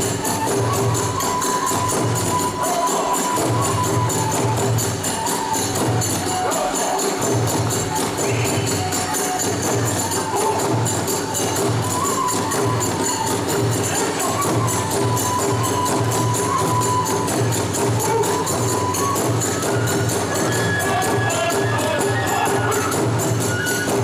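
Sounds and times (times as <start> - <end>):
bamboo flute melody: 0.0 - 24.0
drum beating steady rhythm: 0.0 - 24.0.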